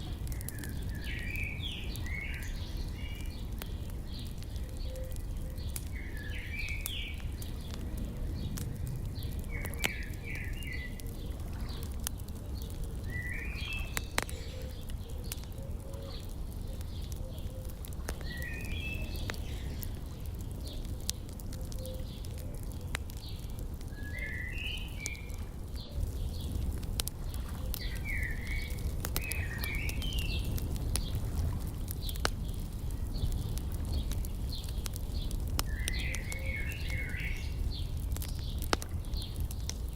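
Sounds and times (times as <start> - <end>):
small birds chirping: 0.0 - 39.9
wood fire crackling and popping: 0.0 - 39.9.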